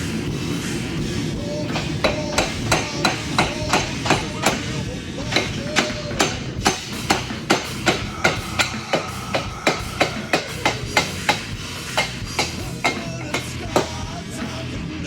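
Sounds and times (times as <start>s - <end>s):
hammer striking steel bar: 1.7s - 14.0s.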